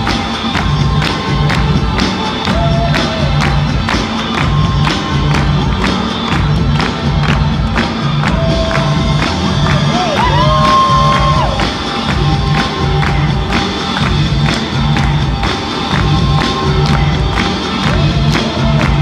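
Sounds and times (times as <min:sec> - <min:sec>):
music with steady beat: 0:00.0 - 0:19.0
pulsing bass line: 0:00.0 - 0:19.0.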